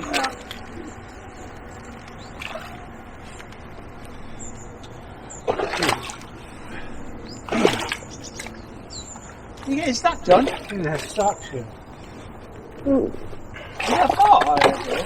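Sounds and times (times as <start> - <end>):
water trickling over mud: 0.0 - 15.0.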